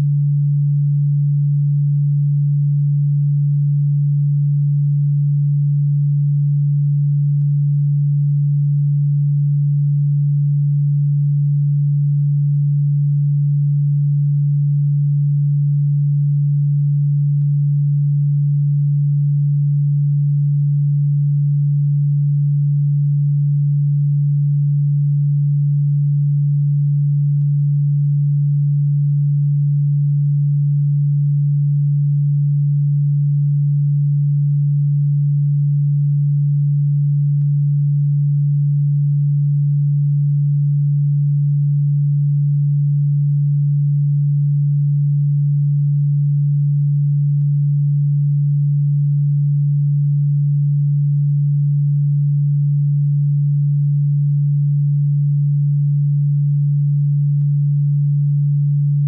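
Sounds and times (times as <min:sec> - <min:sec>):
low electronic sine tone: 0:00.0 - 0:59.0.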